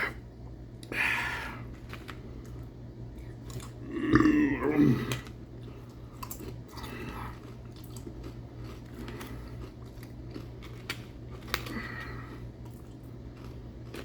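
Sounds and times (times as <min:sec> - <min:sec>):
steady low hum: 0:00.0 - 0:14.0
man chewing crunchy chips: 0:01.6 - 0:14.0.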